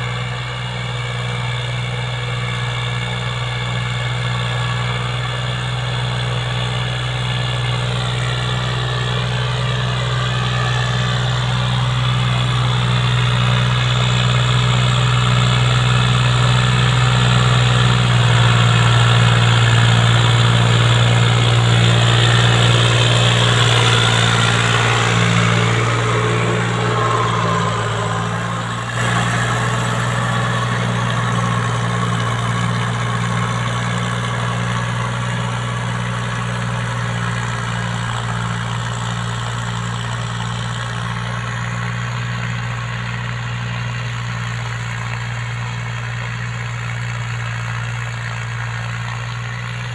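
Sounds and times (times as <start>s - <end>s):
rotary tiller in soil: 0.0s - 49.9s
tractor engine running under load: 0.0s - 49.9s.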